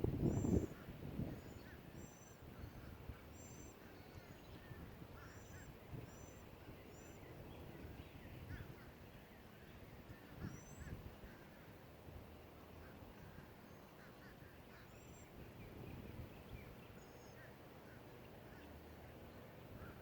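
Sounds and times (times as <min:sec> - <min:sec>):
low bird calls: 0:00.2 - 0:20.0.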